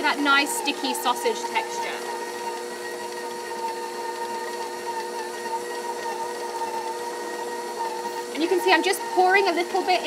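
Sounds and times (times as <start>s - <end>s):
stand mixer motor whine: 0.0s - 10.0s.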